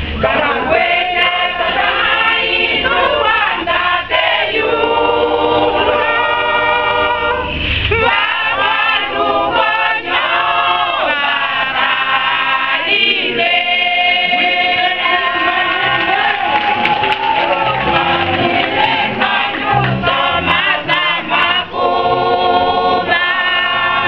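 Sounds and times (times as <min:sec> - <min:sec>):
mixed choir singing in harmony: 0:00.0 - 0:24.0.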